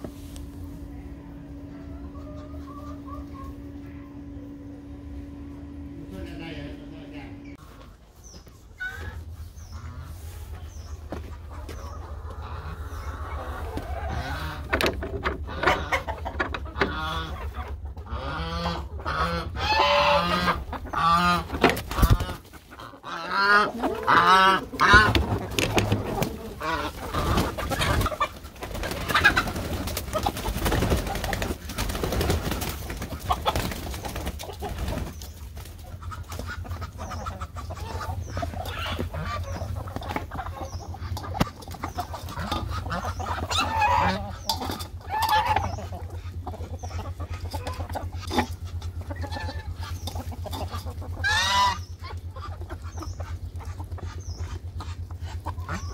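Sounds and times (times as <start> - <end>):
chickens clucking and calling: 0.0 - 55.9
low hum: 0.0 - 55.9.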